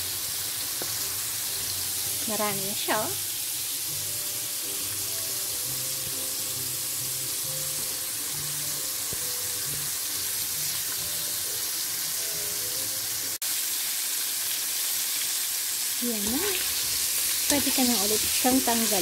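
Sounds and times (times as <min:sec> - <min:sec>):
soft background music: 0:00.0 - 0:13.4, 0:16.0 - 0:19.0
food deep-frying in oil: 0:00.0 - 0:19.0.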